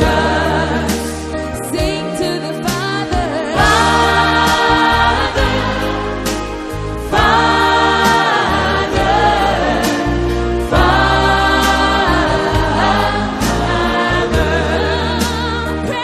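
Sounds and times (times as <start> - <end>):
steady bass line: 0.0 - 2.0, 3.2 - 16.0
gospel choir singing: 0.0 - 16.0.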